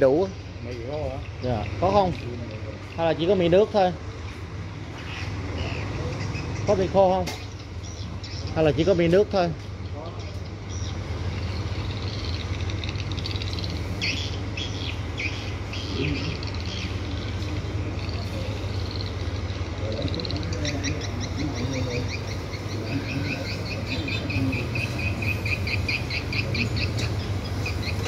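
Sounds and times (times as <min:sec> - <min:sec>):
high bird chirping: 0:00.1 - 0:28.0.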